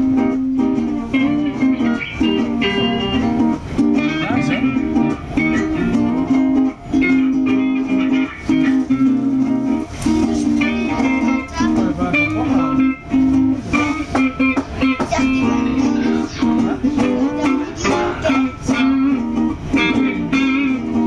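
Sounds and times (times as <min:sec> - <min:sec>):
guitar improvisation: 0:00.0 - 0:21.0.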